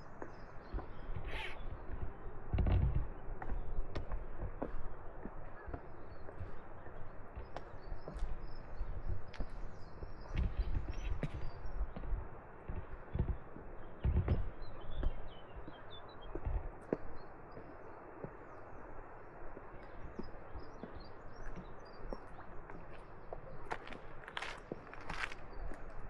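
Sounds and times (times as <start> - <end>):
footsteps crunching on rocky path: 0.0 - 18.6, 20.0 - 26.0
small birds chirping: 0.0 - 26.0
steady outdoor hiss: 0.0 - 26.0.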